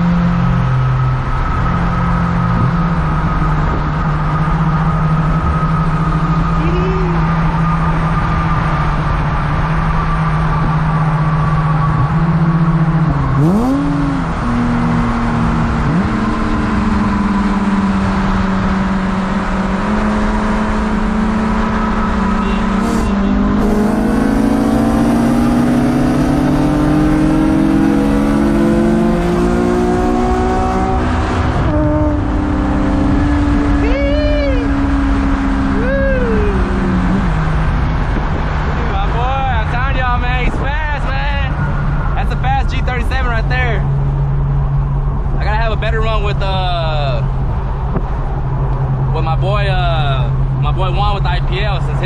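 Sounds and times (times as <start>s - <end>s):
car engine running: 0.0s - 52.0s.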